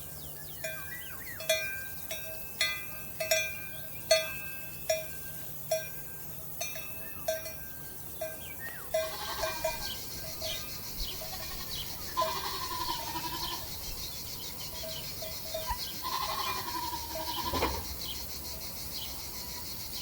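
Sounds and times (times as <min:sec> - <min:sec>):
livestock bells clanking: 0:00.6 - 0:17.8.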